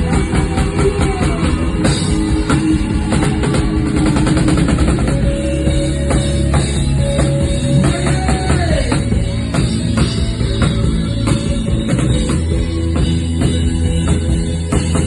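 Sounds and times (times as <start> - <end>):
rock band music with drums: 0.0 - 15.0.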